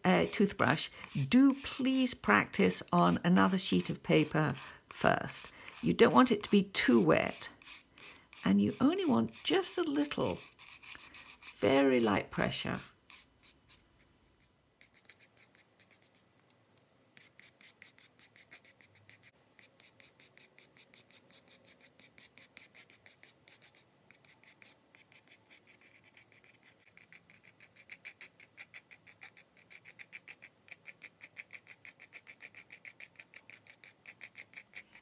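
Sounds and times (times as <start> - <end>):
toothbrush scratching on paper: 0.1 - 16.2, 17.2 - 35.0.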